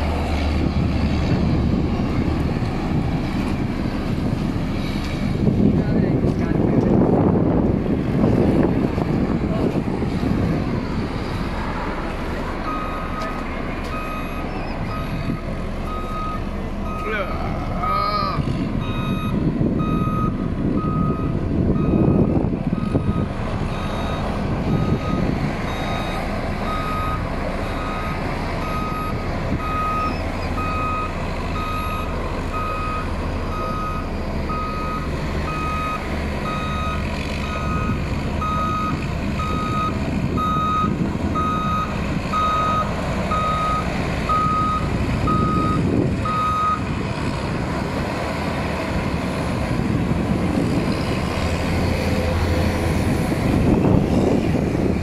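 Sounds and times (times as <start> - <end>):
heavy machine engines running: 0.0 - 55.0.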